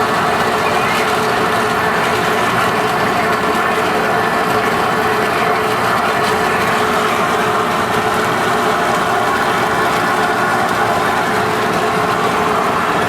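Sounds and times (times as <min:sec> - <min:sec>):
lathe machining: 0:00.0 - 0:13.0.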